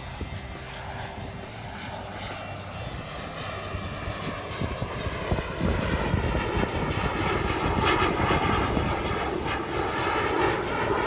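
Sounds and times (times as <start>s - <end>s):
fighter jet flying past: 0.0s - 11.0s.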